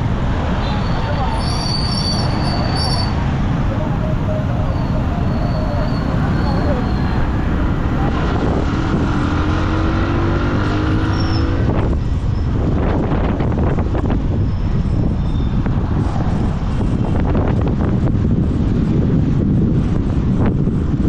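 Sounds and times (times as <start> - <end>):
road traffic: 0.0 - 21.0
wind buffeting microphone: 2.2 - 21.0.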